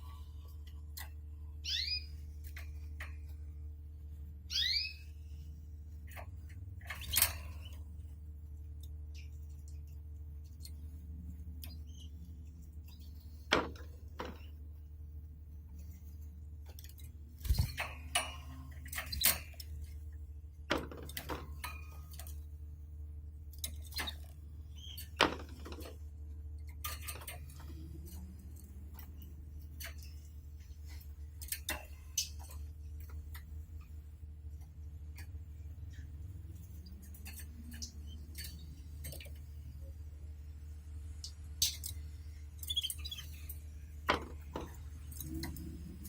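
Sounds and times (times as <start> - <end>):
steady low hum: 0.0 - 46.0
birds tapping and clicking in cage: 0.1 - 14.6, 15.7 - 40.4, 41.1 - 46.0.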